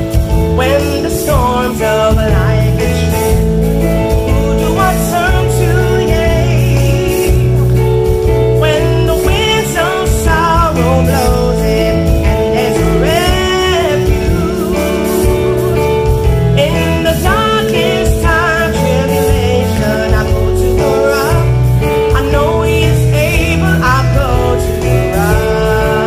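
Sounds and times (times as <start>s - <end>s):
instrumental accompaniment: 0.0s - 26.0s
woman singing gospel: 4.3s - 26.0s.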